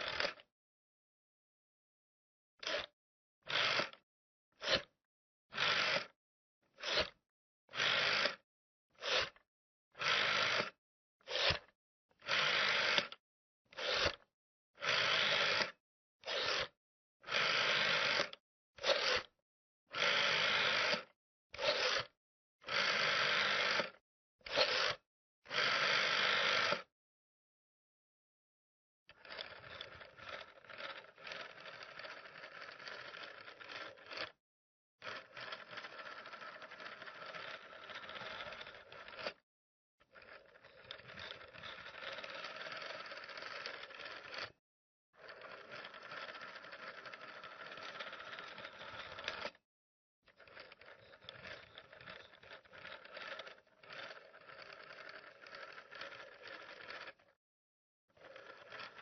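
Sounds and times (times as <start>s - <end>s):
rotary telephone dial whirring: 0.0s - 0.5s, 2.6s - 4.0s, 4.6s - 8.4s, 9.0s - 9.4s, 10.0s - 26.9s, 29.1s - 34.4s, 35.0s - 39.4s, 40.0s - 44.6s, 45.2s - 49.6s, 50.3s - 57.4s, 58.1s - 59.0s.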